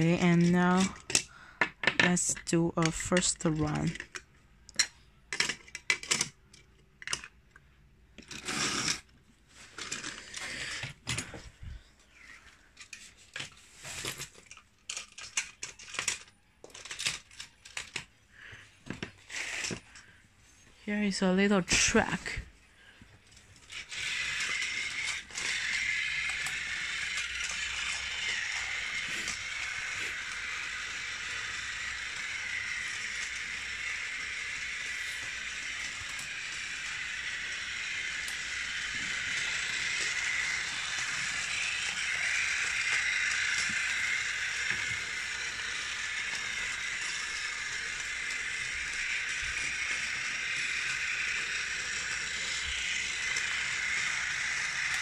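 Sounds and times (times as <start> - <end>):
toy train motor whir: 0.0 - 7.4, 8.1 - 55.0.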